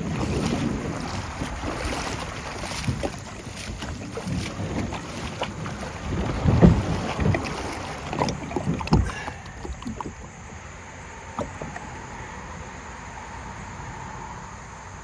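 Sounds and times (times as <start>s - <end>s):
kayak knocking against rocks: 0.0s - 12.2s
creek rushing: 0.0s - 14.8s.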